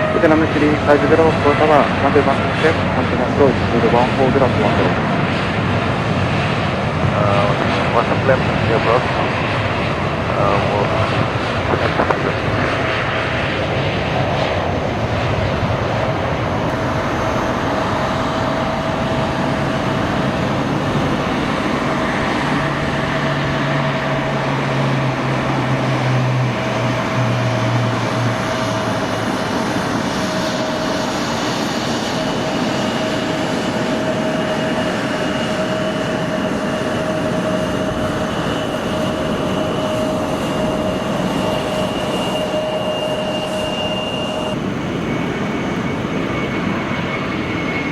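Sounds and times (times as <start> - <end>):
jet engines rumbling and whining: 0.0 - 47.9.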